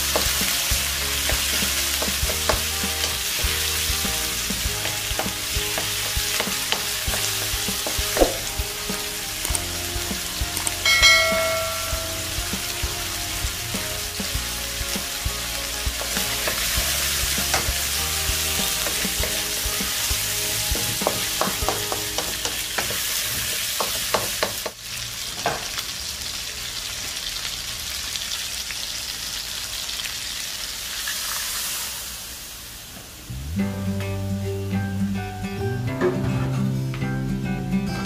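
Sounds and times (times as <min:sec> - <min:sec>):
food sizzling in hot oil: 0:00.0 - 0:33.6.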